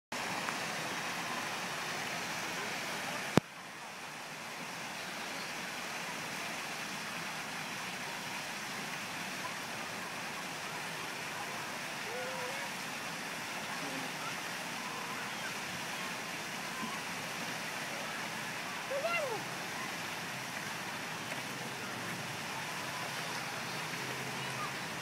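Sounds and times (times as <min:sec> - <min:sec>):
waterfall rushing: 0:00.2 - 0:25.0.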